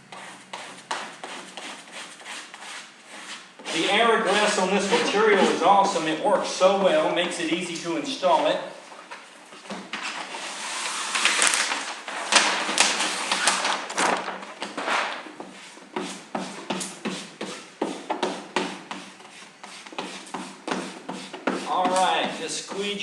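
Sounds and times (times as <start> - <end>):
squeegee scraping vinyl film: 0.0 - 6.0, 9.9 - 23.0.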